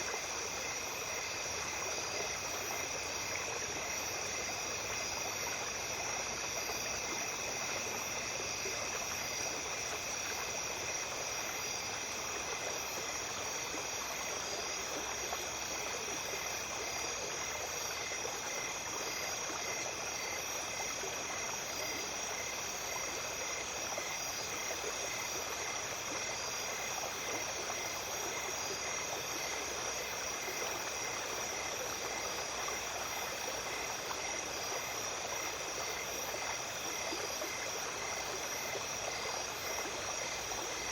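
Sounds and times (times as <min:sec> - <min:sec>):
creek flowing: 0:00.0 - 0:40.9
insects calling: 0:00.0 - 0:40.9.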